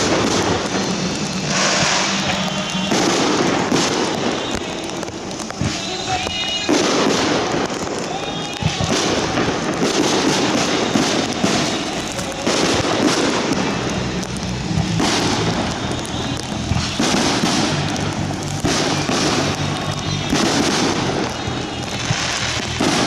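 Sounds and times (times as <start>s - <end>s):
fireworks bursting and crackling: 0.0s - 23.0s
music playing: 0.0s - 23.0s.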